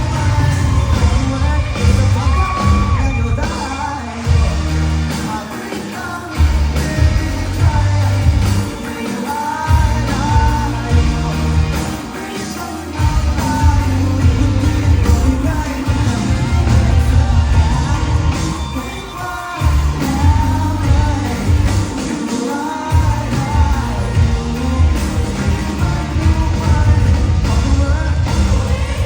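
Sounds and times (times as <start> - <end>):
live rock band with singer: 0.0 - 29.0.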